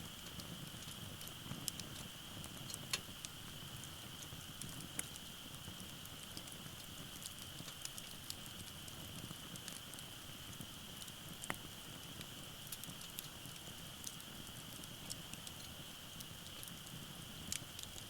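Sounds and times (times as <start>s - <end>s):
sharp snaps of fire: 0.0s - 18.0s
wood fire crackling: 0.0s - 18.0s.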